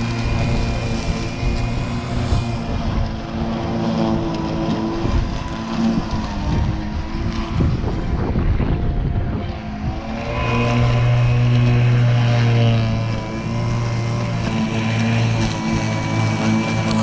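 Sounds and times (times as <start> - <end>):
blade cutting grass: 0.0 - 17.0
lawn mower motor hum: 0.0 - 17.0.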